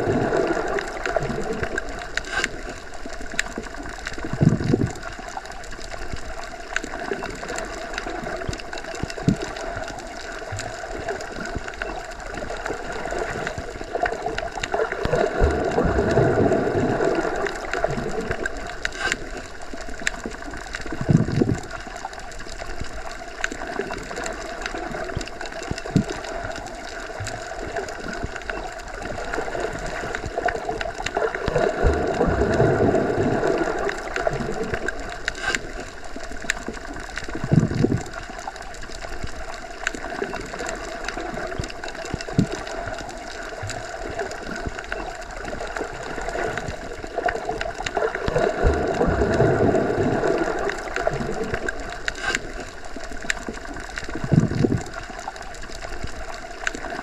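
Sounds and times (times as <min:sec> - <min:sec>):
muffled underwater rumble: 0:00.0 - 0:57.0
underwater clicks: 0:00.0 - 0:57.0.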